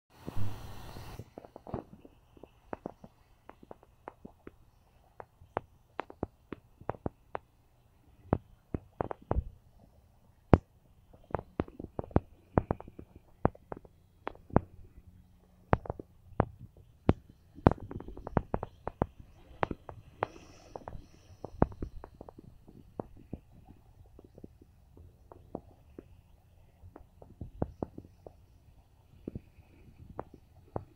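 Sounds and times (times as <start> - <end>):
microphone wind pops and thumps: 0.2 - 7.4, 8.2 - 9.6, 10.4 - 30.9
faint low rumble: 0.2 - 30.9.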